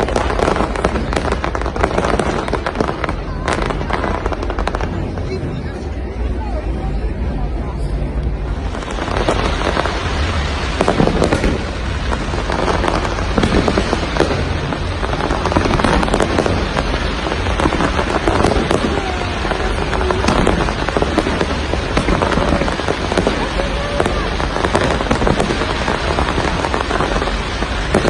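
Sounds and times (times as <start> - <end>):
fireworks crackling: 0.0 - 28.0
low rumble: 0.0 - 28.0.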